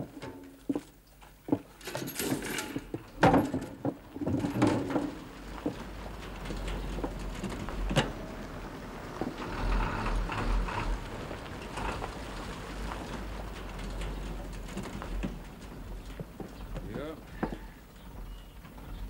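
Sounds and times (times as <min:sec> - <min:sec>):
low engine rumble: 0:02.7 - 0:19.0.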